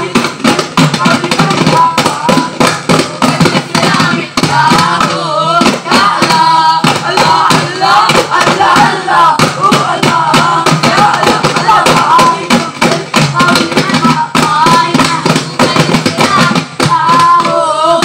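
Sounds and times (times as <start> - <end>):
frame drums beaten: 0.0 - 18.0
group of voices chanting: 0.0 - 18.0.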